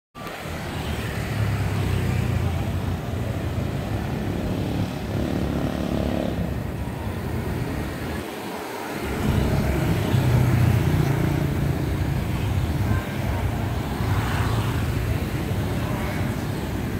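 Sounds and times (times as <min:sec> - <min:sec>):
scooters and cars driving past: 0:00.2 - 0:16.9.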